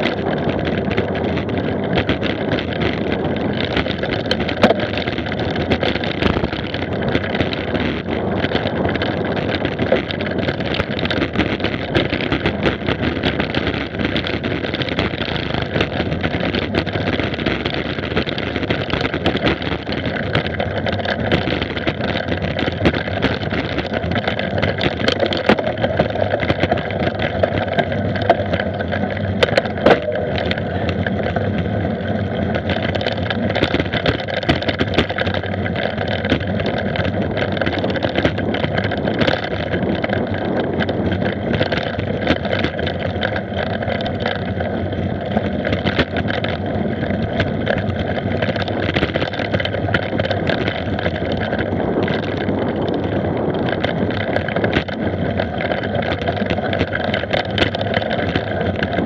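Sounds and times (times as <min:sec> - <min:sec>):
bike tyres rumbling on dirt: 0:00.0 - 0:59.0
small clicks and knocks: 0:00.0 - 0:59.0
wind on microphone: 0:00.0 - 0:59.0.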